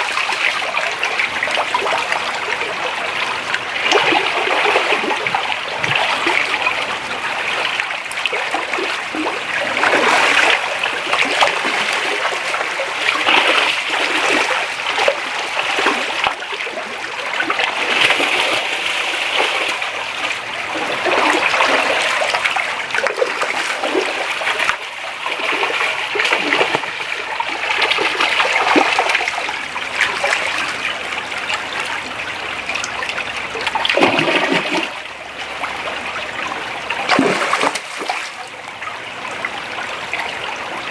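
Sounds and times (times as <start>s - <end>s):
creek water running and splashing: 0.0s - 40.9s.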